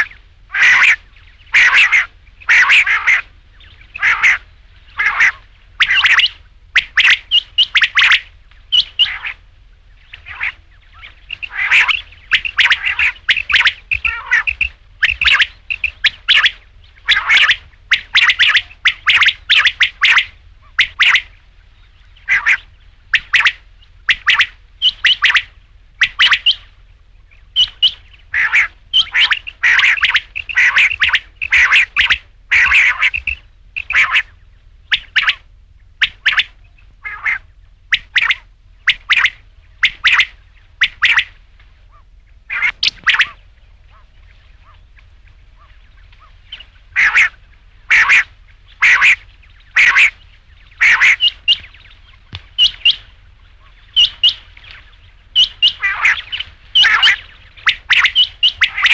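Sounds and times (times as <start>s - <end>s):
quail calling: 0.0s - 58.9s.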